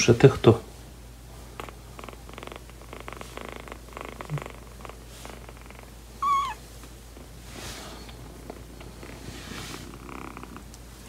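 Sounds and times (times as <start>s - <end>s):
kitten purring: 1.2s - 11.0s.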